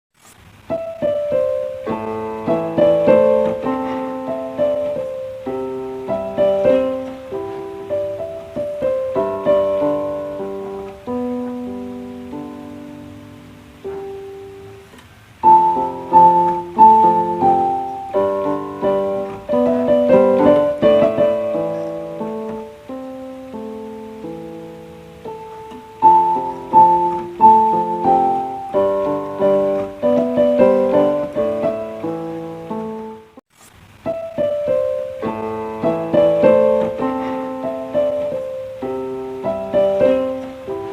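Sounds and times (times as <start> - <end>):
piano music: 0.6 - 40.9.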